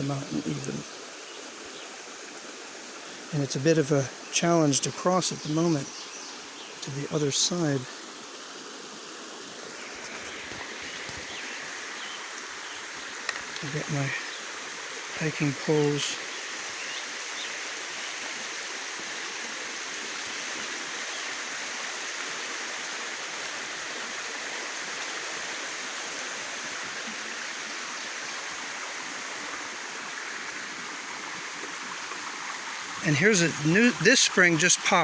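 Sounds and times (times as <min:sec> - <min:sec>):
mountain stream flowing: 0:00.0 - 0:35.0.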